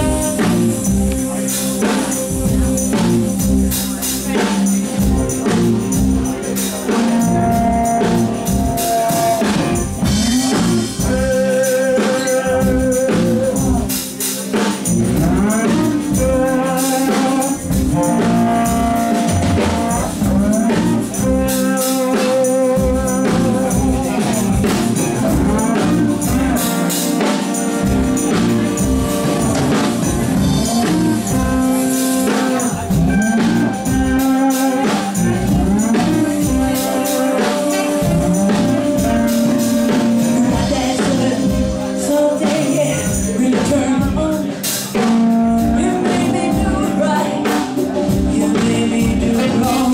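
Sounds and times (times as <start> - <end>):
bass: 0.0 - 49.9
drums: 0.0 - 49.9
electric guitars: 0.0 - 49.9
hand percussion: 0.0 - 49.9
keyboards: 0.0 - 49.9.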